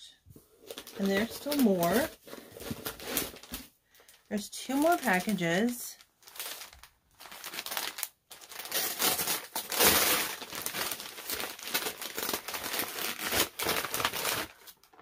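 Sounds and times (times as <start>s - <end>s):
wrapping paper tearing and crumpling: 0.6s - 15.0s.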